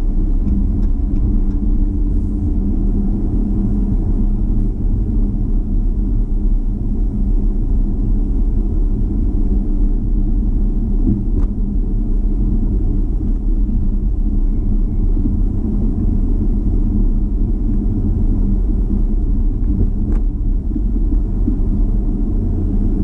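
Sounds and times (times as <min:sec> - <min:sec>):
car cabin road and engine noise: 0:00.0 - 0:23.0.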